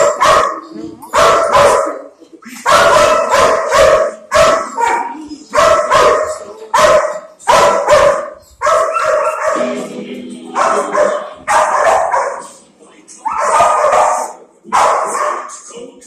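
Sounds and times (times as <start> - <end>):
dogs barking loudly: 0.0 - 9.6, 10.5 - 12.6, 13.2 - 15.6.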